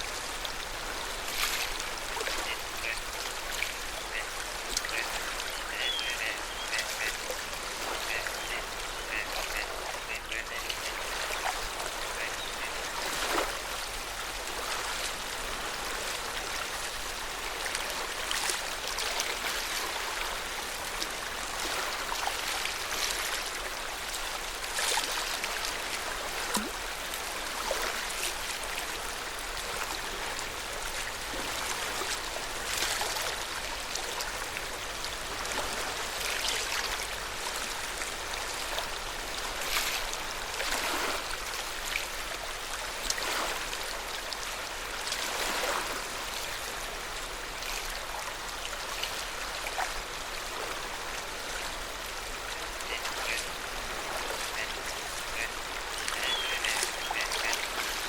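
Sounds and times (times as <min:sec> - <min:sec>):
water lapping at shore: 0:00.0 - 0:58.0.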